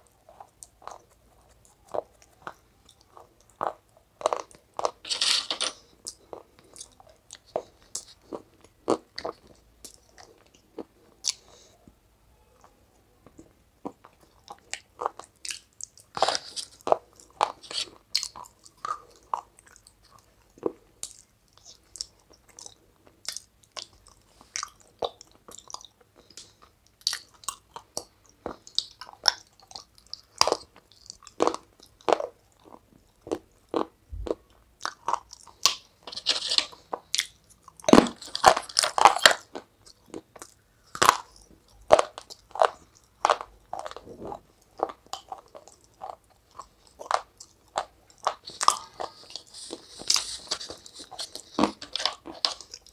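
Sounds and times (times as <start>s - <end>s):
person crunching brittle food: 0.0s - 11.7s, 13.4s - 52.9s.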